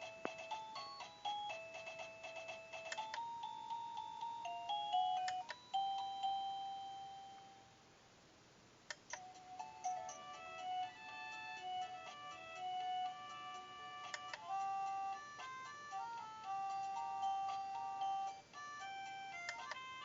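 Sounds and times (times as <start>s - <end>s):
doorbell electronic chime tunes: 0.4s - 7.7s, 9.2s - 20.0s.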